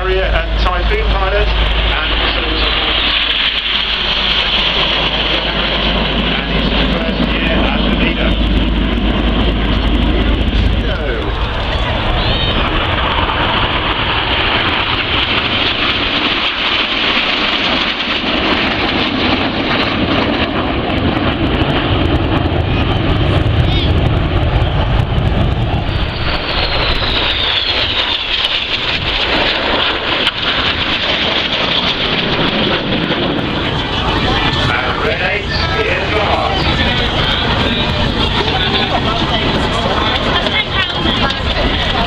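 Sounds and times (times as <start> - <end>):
jet engine noise with whine: 0.0 - 42.0.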